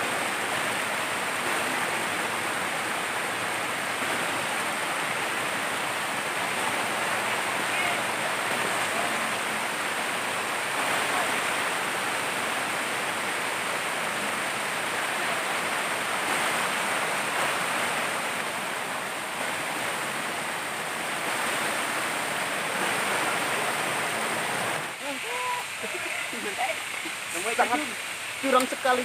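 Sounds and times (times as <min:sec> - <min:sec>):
stream rushing over boulders: 0:00.0 - 0:29.0.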